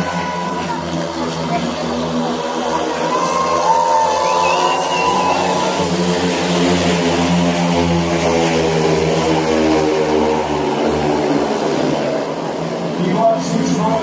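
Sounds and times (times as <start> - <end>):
motorcycle engines racing: 0.0 - 14.0.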